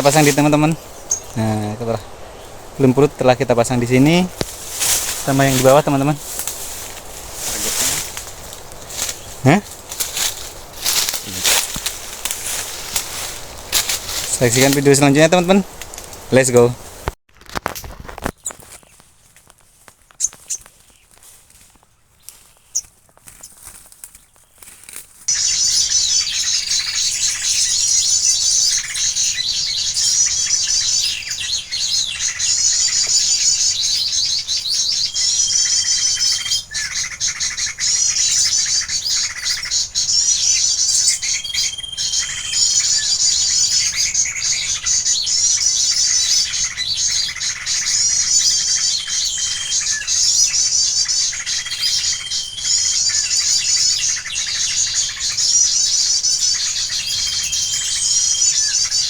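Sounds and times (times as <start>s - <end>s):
songbirds chirping and twittering: 0.0s - 17.2s, 18.0s - 59.0s.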